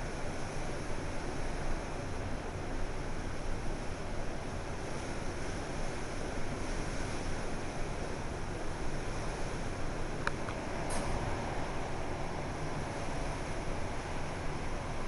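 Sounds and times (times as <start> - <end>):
hurricane wind through palm trees: 0.0 - 15.0.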